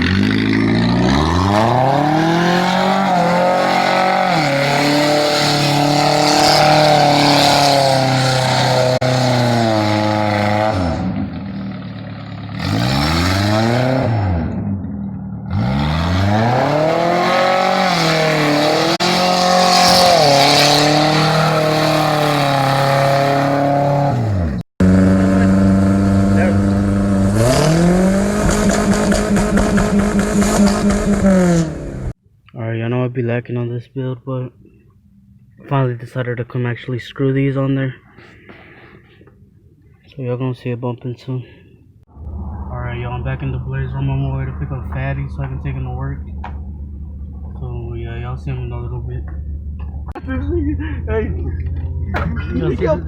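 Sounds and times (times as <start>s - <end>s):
car engine revving: 0.0s - 32.2s, 42.1s - 53.0s.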